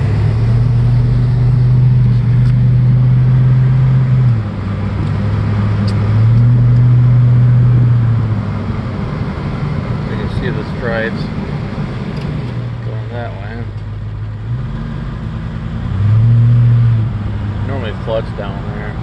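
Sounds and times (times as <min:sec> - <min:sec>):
vehicle engine low hum: 0:00.0 - 0:19.0.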